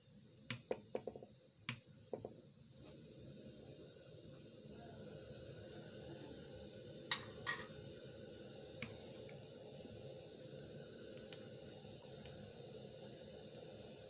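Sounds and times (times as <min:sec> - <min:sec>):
ghee hissing and crackling in wok: 0:00.0 - 0:14.0.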